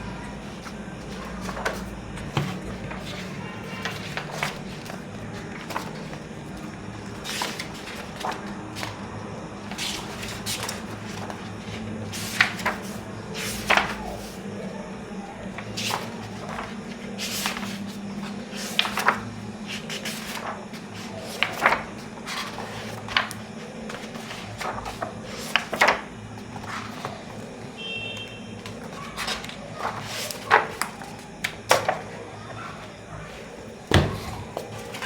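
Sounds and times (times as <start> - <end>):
book pages flipping: 0.0 - 27.6, 28.2 - 35.0.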